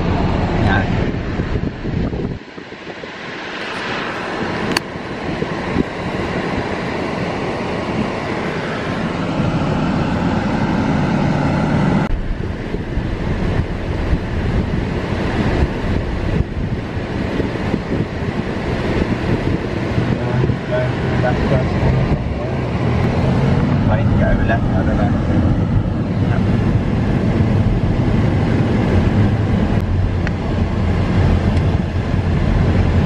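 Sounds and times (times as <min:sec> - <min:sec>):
car road and wind noise: 0:00.0 - 0:33.0.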